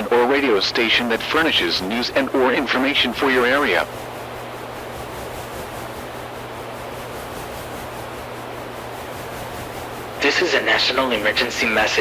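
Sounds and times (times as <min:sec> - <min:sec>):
steady radio hiss: 0:00.0 - 0:12.0.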